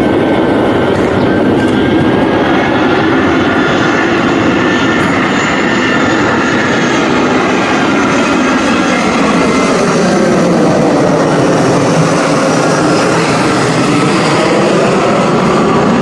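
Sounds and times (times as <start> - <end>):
aircraft engines roaring: 0.0 - 16.0.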